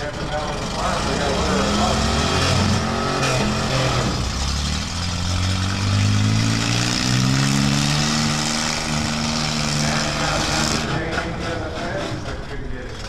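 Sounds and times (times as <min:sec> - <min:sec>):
van engines revving hard: 0:00.0 - 0:13.0.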